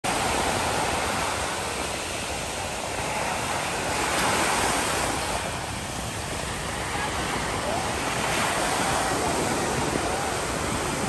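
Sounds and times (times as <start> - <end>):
ocean surf breaking on beach: 0.1 - 11.0.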